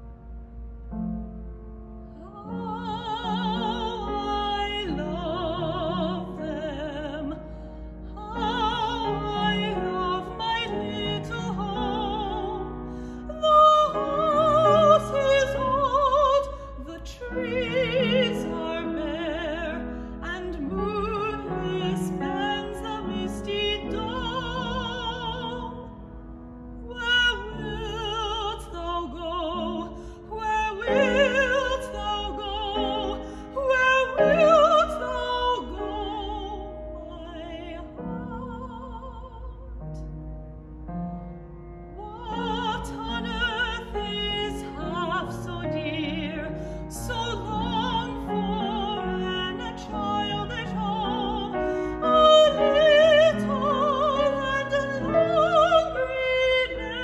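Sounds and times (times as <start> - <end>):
grand piano: 0.0 - 57.0
woman singing opera: 2.1 - 25.9, 26.8 - 39.8, 42.0 - 57.0.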